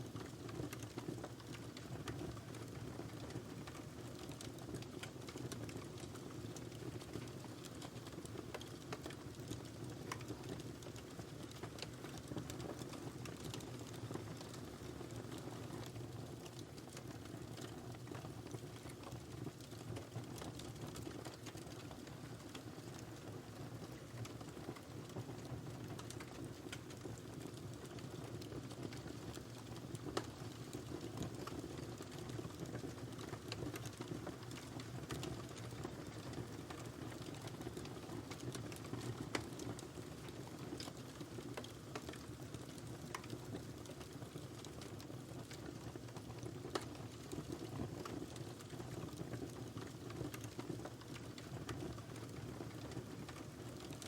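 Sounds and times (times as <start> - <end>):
fire crackles and pops: 0.0 - 54.0
low rumble of flames: 0.1 - 54.0.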